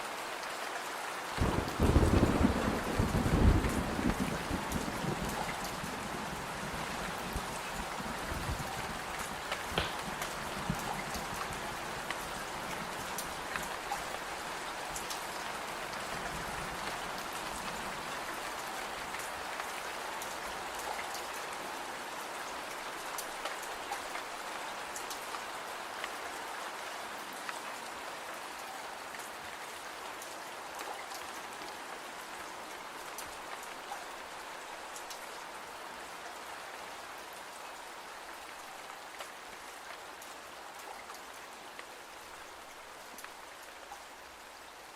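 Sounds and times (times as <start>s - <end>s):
steady rain hiss: 0.0s - 44.9s
ticks of raindrops: 0.1s - 44.9s.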